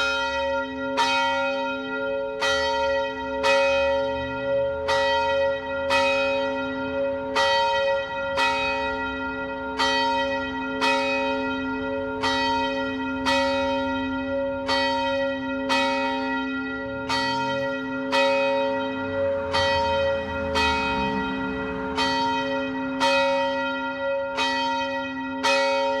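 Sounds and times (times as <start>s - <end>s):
church bell ringing: 0.0s - 26.0s.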